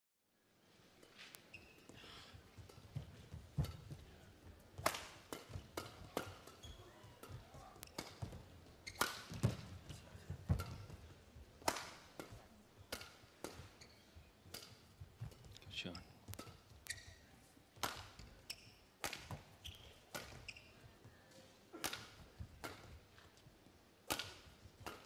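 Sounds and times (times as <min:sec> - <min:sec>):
badminton rackets hitting shuttlecock: 0:01.0 - 0:25.0.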